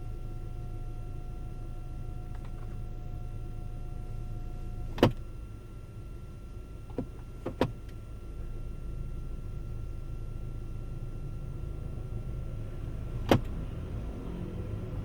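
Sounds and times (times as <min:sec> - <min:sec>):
car running with low hum: 0:00.0 - 0:15.0
thin steady whine: 0:00.0 - 0:15.0.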